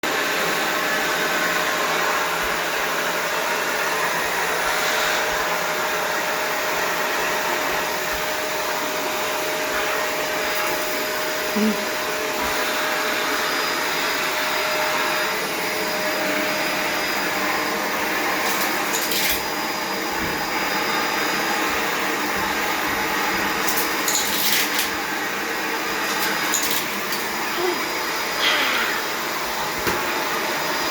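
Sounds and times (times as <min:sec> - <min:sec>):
vacuum cleaner running: 0:00.0 - 0:30.9.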